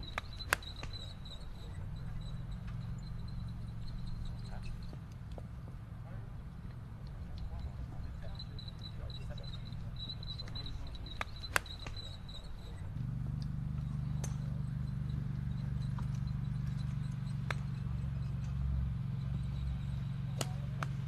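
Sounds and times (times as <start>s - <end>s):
golf clubs striking balls: 0.0s - 5.5s, 6.6s - 18.7s, 20.3s - 21.0s.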